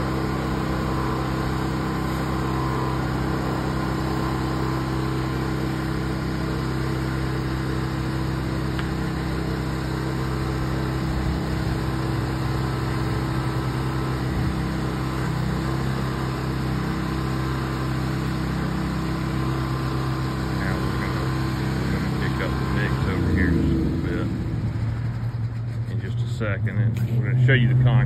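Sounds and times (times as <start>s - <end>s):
pressure washer engine running: 0.0s - 28.0s.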